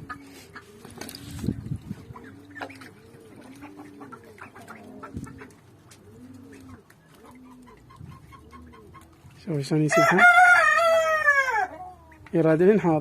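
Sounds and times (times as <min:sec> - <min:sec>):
poultry cooing: 0:00.0 - 0:12.3
poultry clucking: 0:00.0 - 0:13.0.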